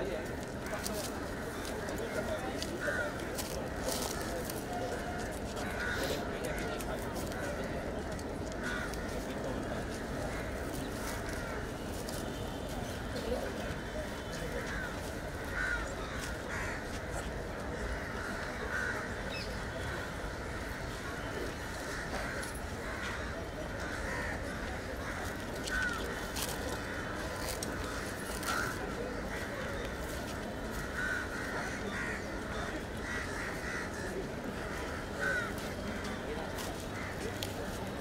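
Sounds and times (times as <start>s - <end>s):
murmur of crowd: 0.0s - 38.0s
crows cawing: 0.2s - 12.5s, 13.7s - 38.0s.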